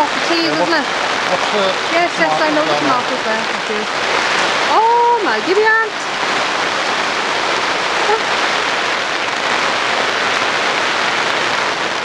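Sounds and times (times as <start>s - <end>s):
heavy rain on plastic cover: 0.0s - 12.0s.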